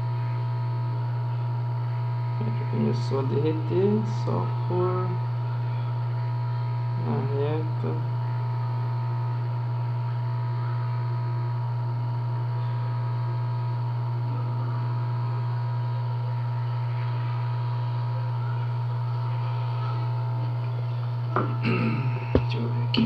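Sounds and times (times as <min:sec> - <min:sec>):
hot-air station blowing: 0:01.9 - 0:05.6, 0:06.2 - 0:23.0.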